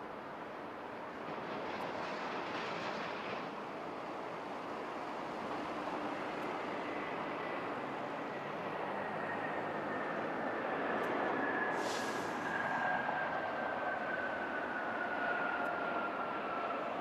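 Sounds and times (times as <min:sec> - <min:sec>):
jet engines running: 0:00.1 - 0:17.0.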